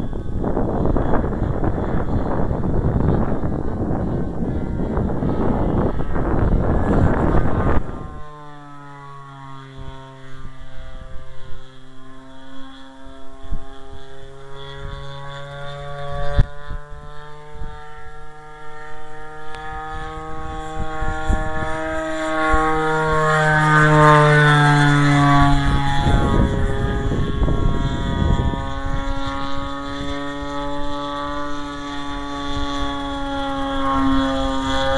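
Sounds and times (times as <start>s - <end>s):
model airplane engine drone: 0.0s - 34.9s
wind on microphone: 0.0s - 34.9s.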